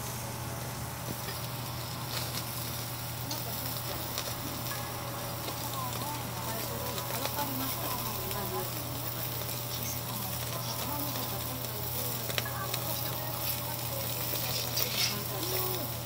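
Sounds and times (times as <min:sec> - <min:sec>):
low steady hum: 0:00.0 - 0:16.0
meat sizzling on a grill: 0:00.0 - 0:16.0.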